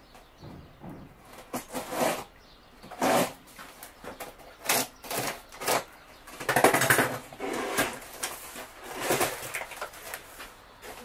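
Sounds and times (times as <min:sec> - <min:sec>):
packaging rustling and scraping: 0:01.3 - 0:11.0.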